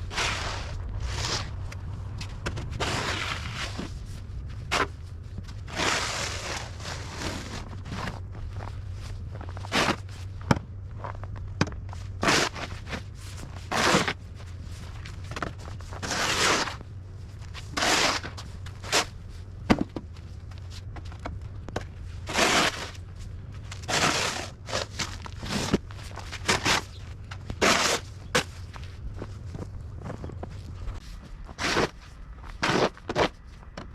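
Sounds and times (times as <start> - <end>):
snow crunching and scraping: 0.0 - 33.9
steady low hum: 0.0 - 33.9.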